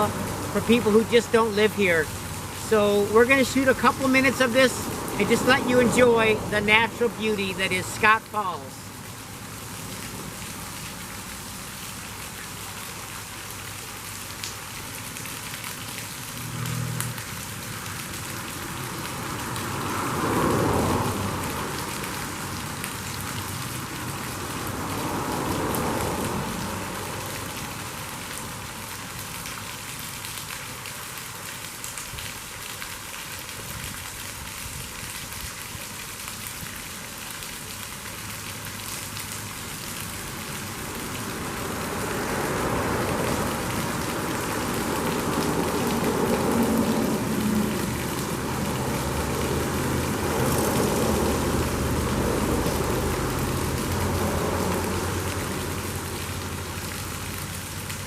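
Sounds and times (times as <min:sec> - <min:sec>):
passing highway traffic: 0:00.0 - 0:58.0
waterfall splashing: 0:00.0 - 0:58.0.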